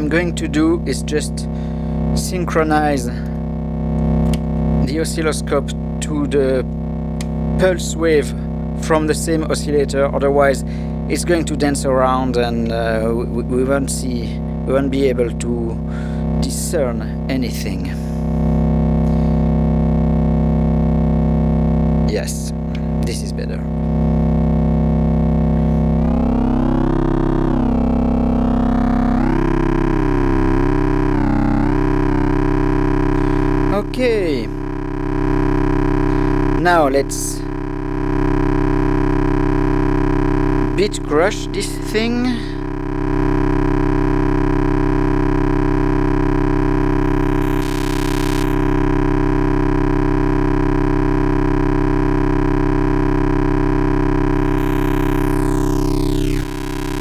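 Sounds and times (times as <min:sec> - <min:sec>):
synthesizer low note: 0:00.0 - 0:57.0.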